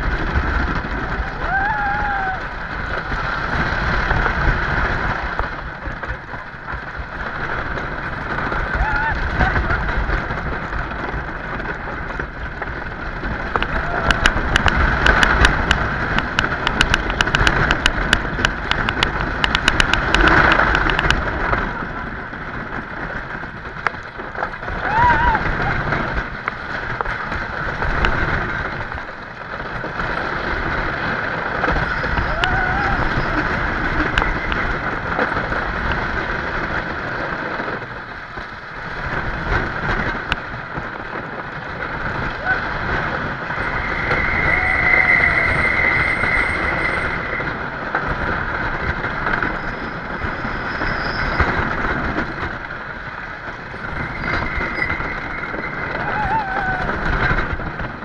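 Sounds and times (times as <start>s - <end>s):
roller coaster rumbling on track: 0.0s - 58.0s
wind rushing over microphone: 0.0s - 58.0s
sharp rattling clacks: 2.4s - 58.0s.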